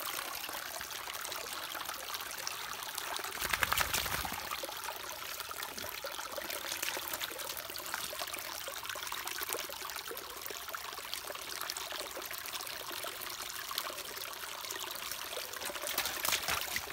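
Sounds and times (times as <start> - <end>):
stream trickling over rocks: 0.0 - 16.9.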